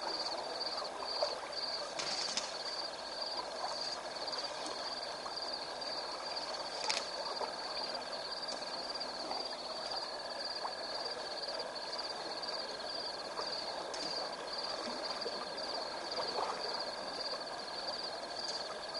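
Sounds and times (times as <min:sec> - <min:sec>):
insects and frogs chorus: 0:00.0 - 0:18.9.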